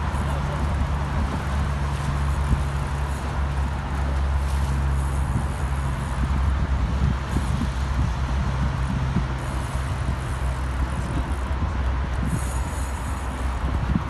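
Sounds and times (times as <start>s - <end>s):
low engine hum: 0.0s - 14.0s
road traffic noise: 0.0s - 14.0s.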